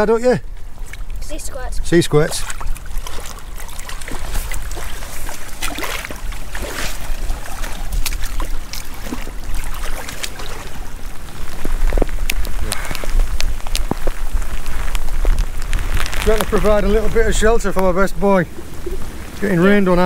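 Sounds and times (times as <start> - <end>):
raindrops hitting rocks: 0.0 - 20.0
seawater trickling through rock pool: 0.0 - 20.0.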